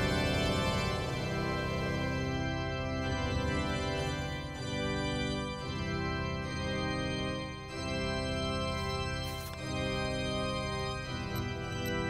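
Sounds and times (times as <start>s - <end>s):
slow held chords: 0.0s - 12.0s.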